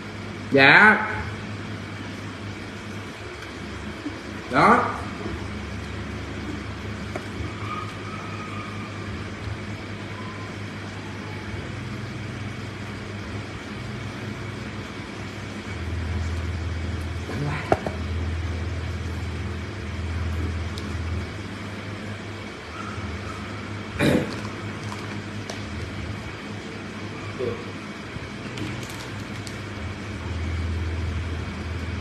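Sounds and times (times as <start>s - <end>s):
low steady rumble: 1.2s - 32.0s.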